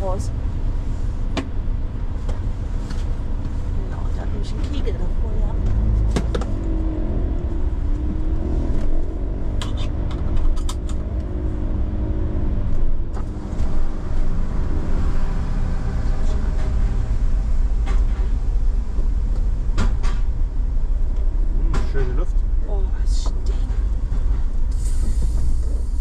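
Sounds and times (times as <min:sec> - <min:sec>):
van engine rumble and tyres: 0:00.0 - 0:26.0.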